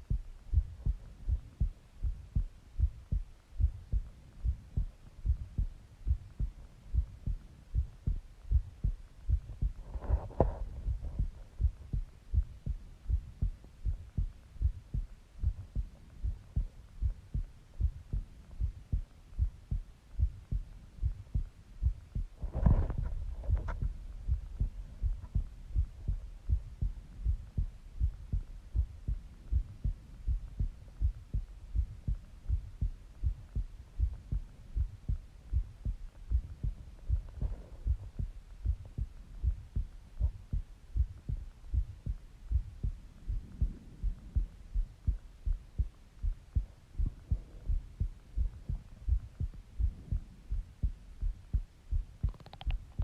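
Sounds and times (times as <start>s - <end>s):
heartbeat thumps: 0.0s - 53.0s.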